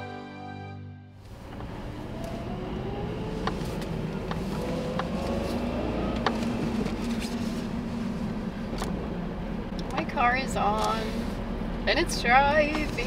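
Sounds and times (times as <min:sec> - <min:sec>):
vehicle running rumble: 0:01.2 - 0:13.0.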